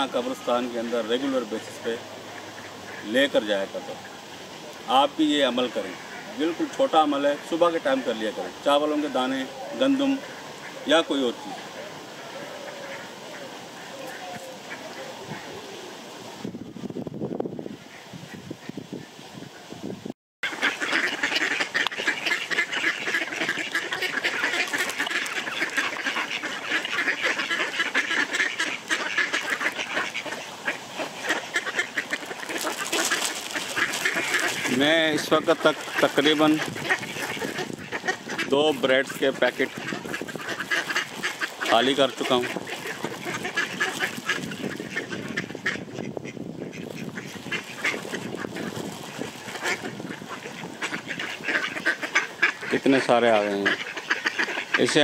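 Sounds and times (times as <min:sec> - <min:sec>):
ducks quacking: 0:00.0 - 0:16.0, 0:20.4 - 0:55.0.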